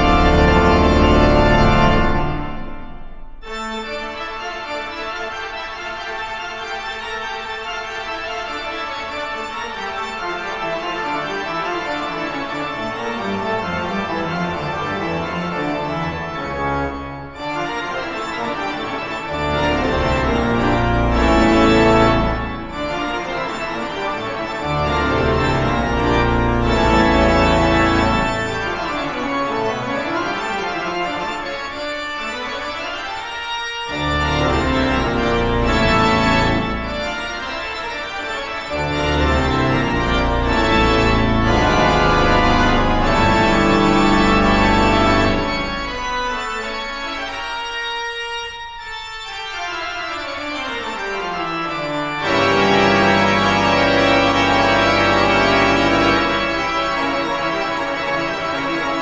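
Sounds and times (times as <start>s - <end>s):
organ-like keyboard chords: 0.0s - 59.0s.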